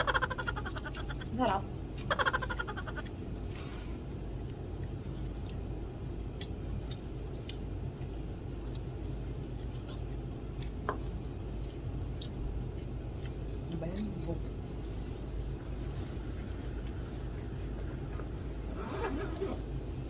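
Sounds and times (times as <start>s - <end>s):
low background hum: 0.0s - 20.0s
person chewing: 0.0s - 20.0s.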